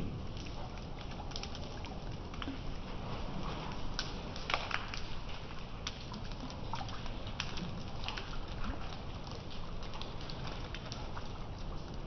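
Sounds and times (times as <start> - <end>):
drips splashing in standing water: 0.0 - 12.0.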